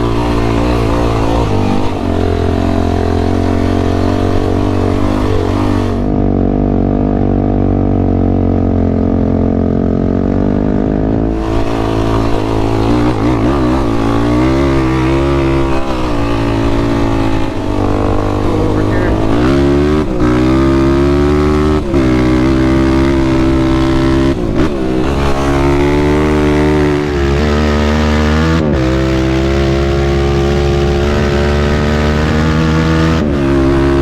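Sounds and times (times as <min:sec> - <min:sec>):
low wind rumble: 0:00.0 - 0:34.0
quad engine revving: 0:00.0 - 0:34.0.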